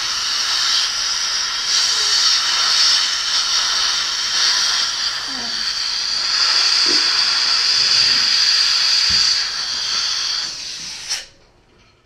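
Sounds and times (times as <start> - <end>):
dental suction hissing: 0.0 - 11.4.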